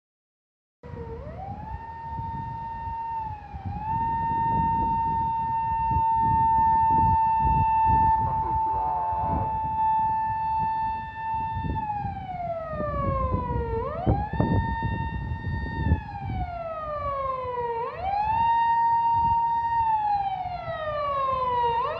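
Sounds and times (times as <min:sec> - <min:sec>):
low rumble of road noise: 0:00.8 - 0:21.9
police siren wailing: 0:00.8 - 0:21.9.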